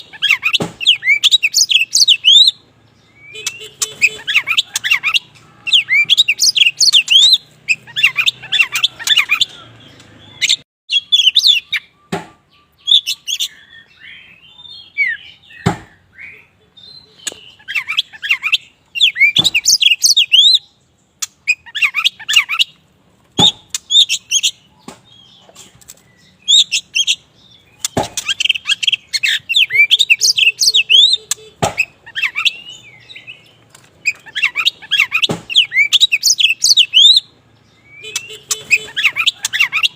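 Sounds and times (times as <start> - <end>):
bird singing chirps and whistles: 0.0 - 22.8, 23.4 - 25.4, 26.0 - 39.9.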